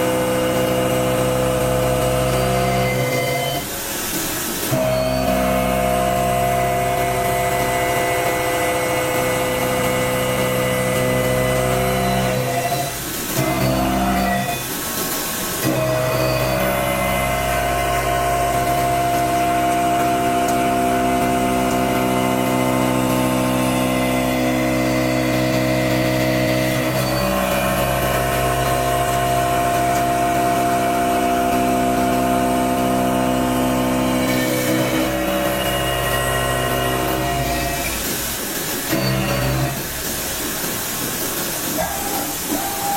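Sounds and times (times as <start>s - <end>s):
milling machine cutting metal: 0.0s - 42.9s.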